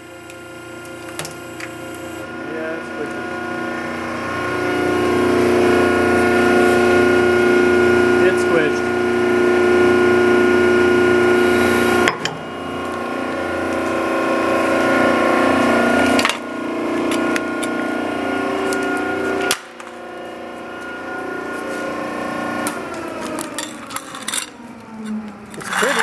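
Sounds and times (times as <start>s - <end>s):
hydraulic press motor running: 0.0s - 26.0s.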